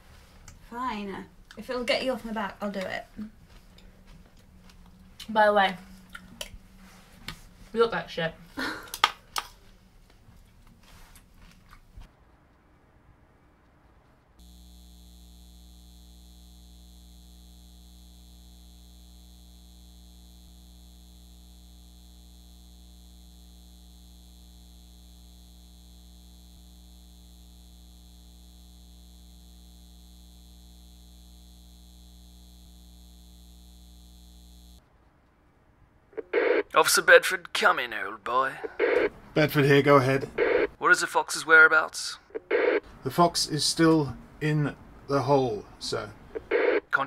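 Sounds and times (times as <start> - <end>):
electrical mains hum: 0.0 - 47.0.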